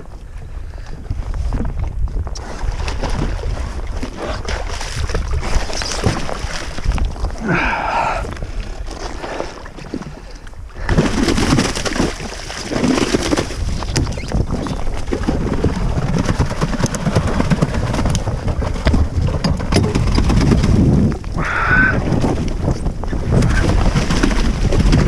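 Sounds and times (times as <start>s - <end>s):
water noise: 0.0s - 25.0s
wind buffeting microphone: 0.0s - 25.0s.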